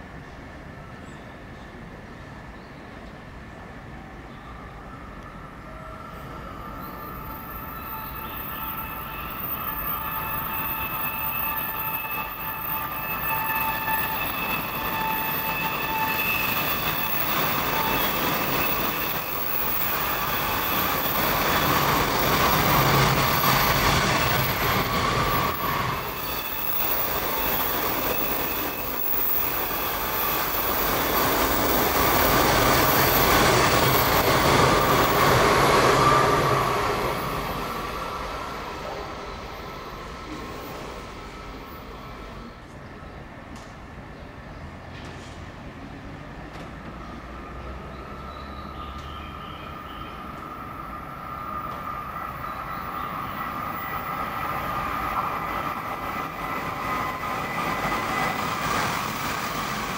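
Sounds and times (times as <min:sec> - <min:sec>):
train running gear whine: 0:04.7 - 0:43.8, 0:44.8 - 0:59.9
train wheels rumbling on rails: 0:06.5 - 0:59.9.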